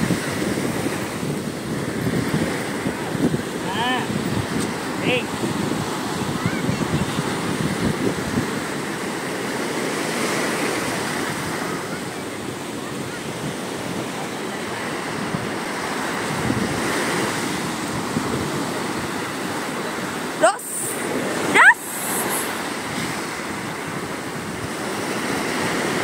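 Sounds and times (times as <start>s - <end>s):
sea surf breaking: 0.0s - 26.0s
wind buffeting the microphone: 0.0s - 26.0s.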